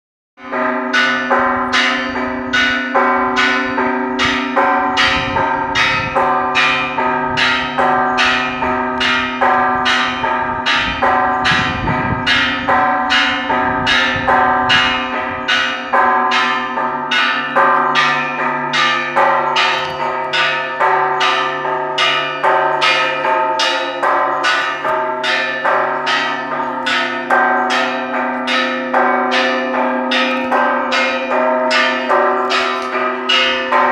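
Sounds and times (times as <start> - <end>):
church bells ringing: 0.4 - 33.9.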